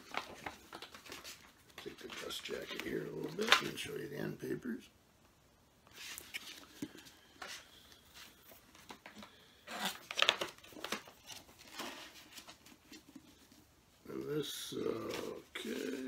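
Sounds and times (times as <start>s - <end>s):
paper rustling and pages turning: 0.0s - 4.0s, 5.9s - 13.7s, 14.4s - 16.0s.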